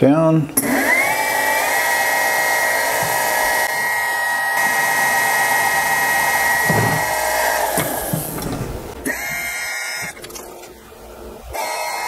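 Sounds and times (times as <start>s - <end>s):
motor winding down: 0.6s - 8.4s, 9.0s - 10.5s, 11.5s - 12.0s
milling machine spindle whine: 0.6s - 10.5s, 11.2s - 12.0s.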